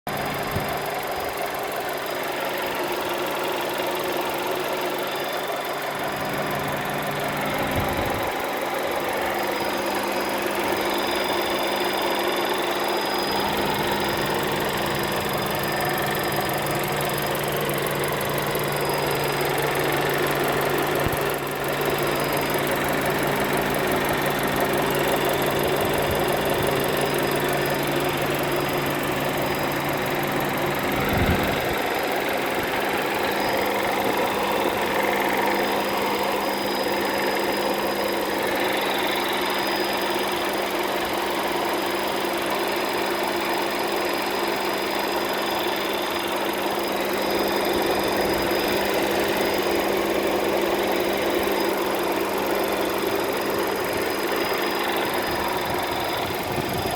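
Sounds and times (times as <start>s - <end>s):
car engine idling: 0.1s - 56.9s
high-pitched engine whine: 0.2s - 56.9s.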